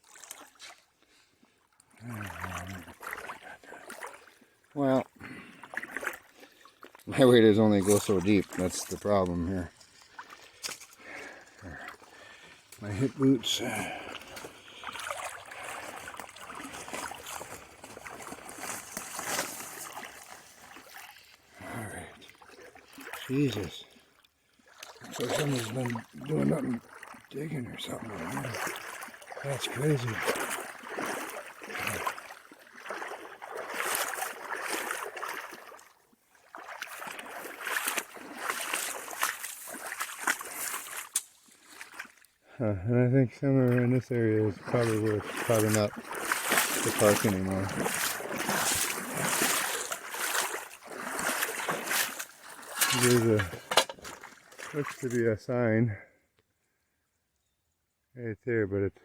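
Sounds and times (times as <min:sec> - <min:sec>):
water splashing around wading legs: 0:00.0 - 0:01.1, 0:01.7 - 0:42.4, 0:43.6 - 0:55.2.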